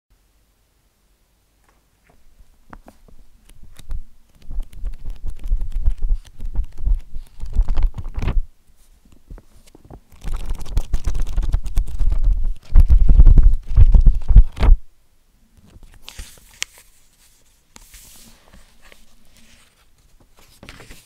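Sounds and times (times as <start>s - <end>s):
book pages rustling: 2.0s - 14.8s, 15.6s - 21.0s.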